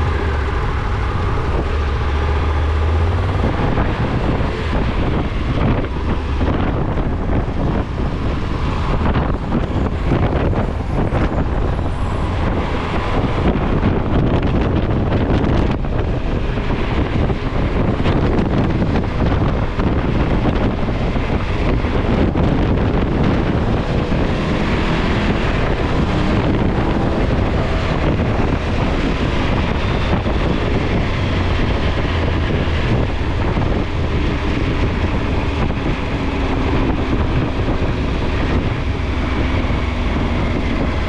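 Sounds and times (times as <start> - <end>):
loud rumbling: 0.0 - 41.0
wind buffeting microphone: 0.0 - 41.0.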